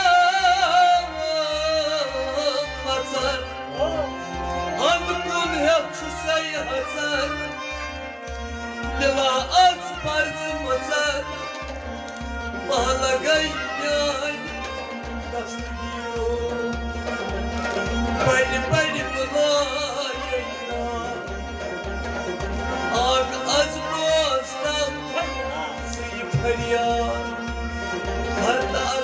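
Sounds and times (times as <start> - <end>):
man singing: 0.0 - 7.8, 8.9 - 11.7, 12.6 - 29.0
harmonium: 0.0 - 29.0.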